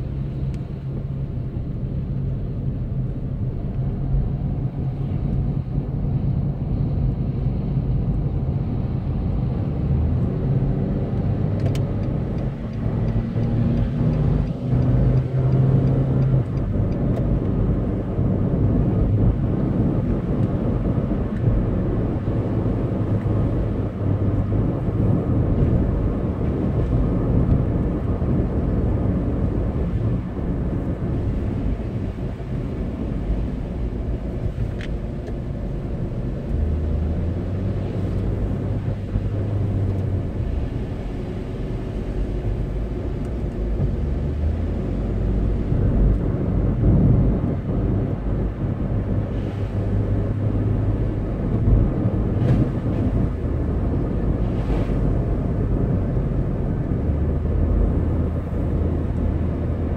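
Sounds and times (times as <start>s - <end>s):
car engine hum: 0.0s - 59.9s
tyre noise on wet road: 11.6s - 59.9s.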